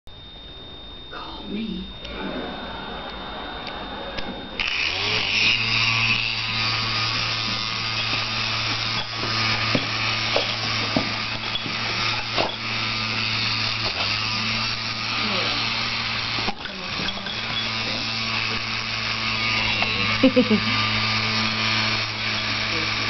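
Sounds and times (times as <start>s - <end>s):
handheld fan whirring: 0.2s - 23.0s.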